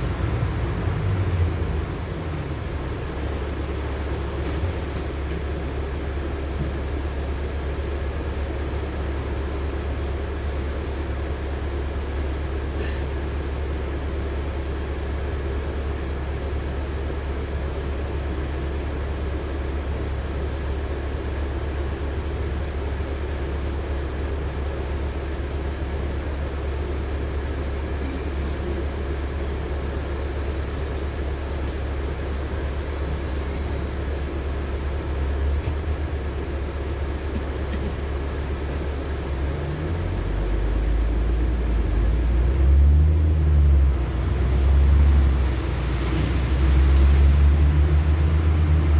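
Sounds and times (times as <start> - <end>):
bus engine and road drone: 0.0 - 48.9.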